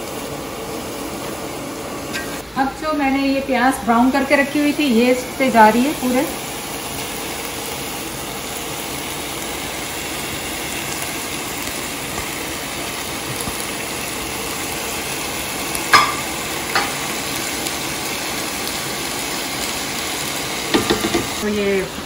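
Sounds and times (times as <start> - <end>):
beef and onions sizzling in pan: 0.0 - 22.0.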